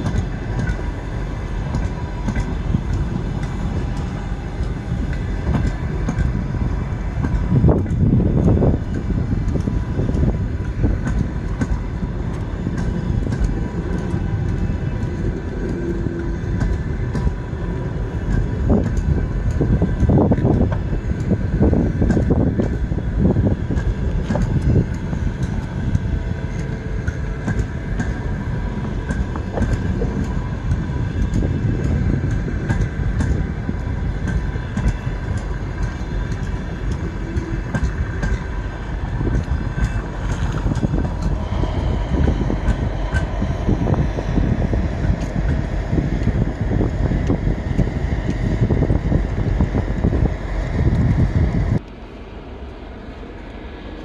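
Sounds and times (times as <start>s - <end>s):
train wheel clicks: 0.0s - 52.0s
faint steady tones: 0.0s - 54.0s
train wheels rumbling: 0.0s - 54.0s.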